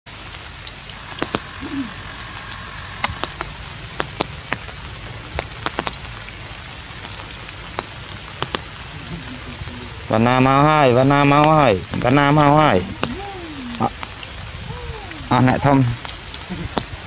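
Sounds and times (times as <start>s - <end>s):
steady hiss: 0.1s - 17.0s.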